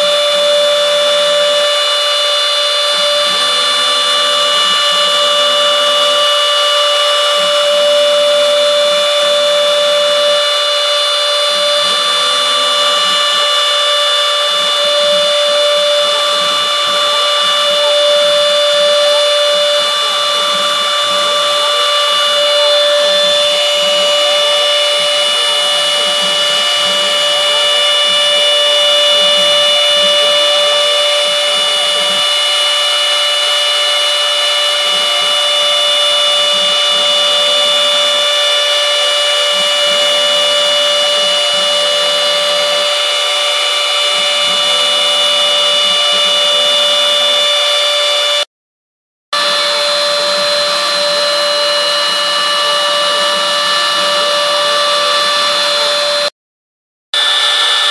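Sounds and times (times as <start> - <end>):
router spindle high whine: 0.0 - 48.5, 49.4 - 56.3, 57.2 - 57.9.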